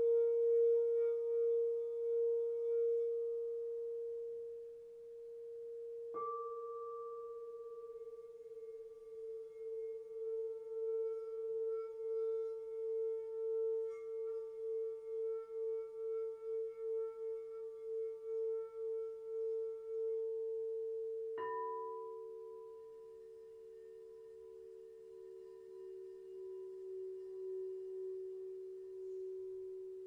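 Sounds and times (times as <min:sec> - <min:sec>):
higher-pitched bowl ring: 0:00.0 - 0:30.0
singing bowl pulsing tone: 0:00.0 - 0:30.0.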